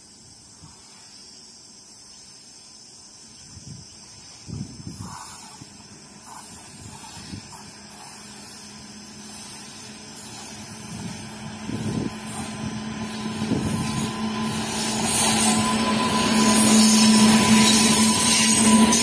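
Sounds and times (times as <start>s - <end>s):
electric locomotive hum: 3.2s - 19.0s
train running noise: 3.7s - 19.0s.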